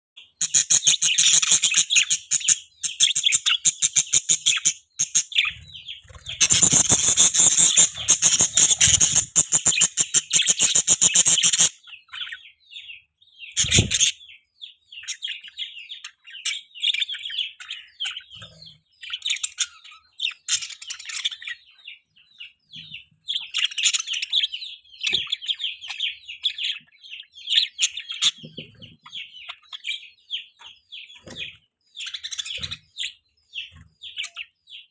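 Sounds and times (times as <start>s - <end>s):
budgerigar chirping and warbling: 0.2s - 34.9s.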